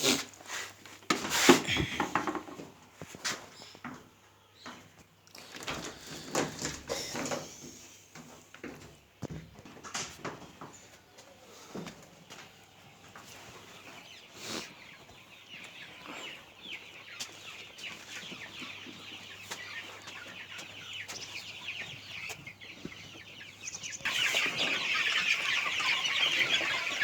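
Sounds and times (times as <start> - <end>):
chicks peeping: 1.6 - 27.0.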